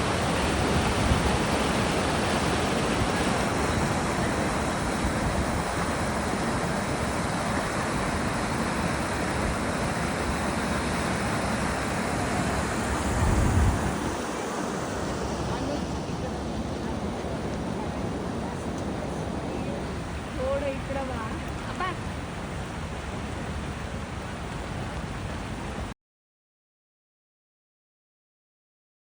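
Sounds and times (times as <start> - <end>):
waterfall rushing over rocks: 0.0 - 25.9.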